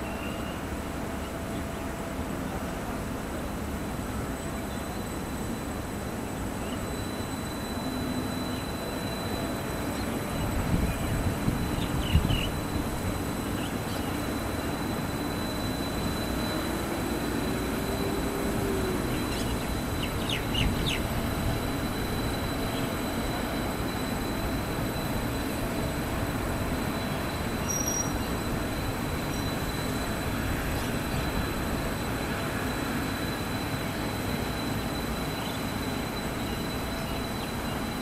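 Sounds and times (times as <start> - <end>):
metro train rolling: 0.0 - 38.0
train whine: 0.0 - 38.0.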